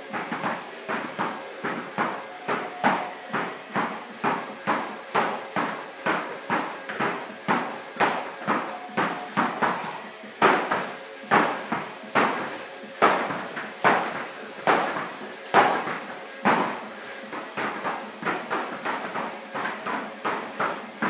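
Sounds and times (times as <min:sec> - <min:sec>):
battle ropes slapping floor mat: 0:00.0 - 0:21.0.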